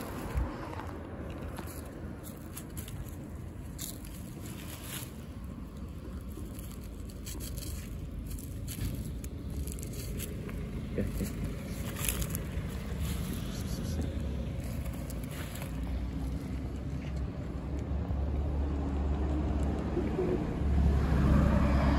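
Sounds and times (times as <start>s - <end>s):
low outdoor rumble: 0.0s - 21.9s.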